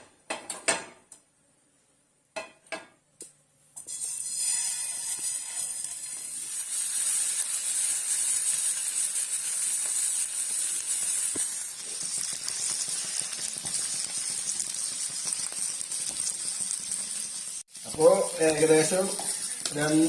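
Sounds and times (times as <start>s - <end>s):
fish sizzling in hot oil: 3.8s - 20.0s.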